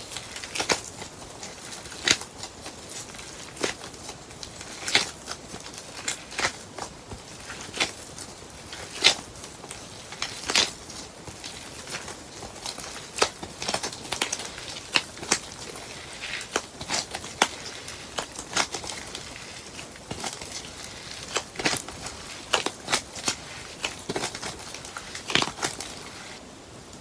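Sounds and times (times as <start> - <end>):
slime crackling and popping: 0.0 - 26.4.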